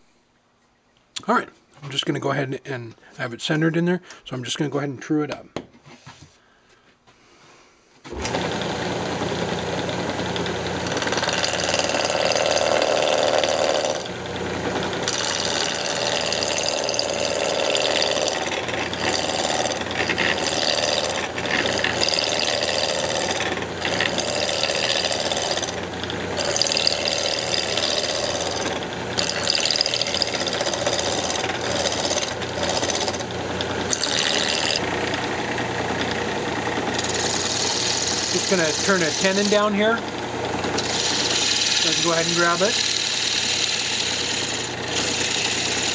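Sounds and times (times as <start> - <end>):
turning tool cutting wood: 8.1 - 45.9
wood lathe running: 8.1 - 45.9.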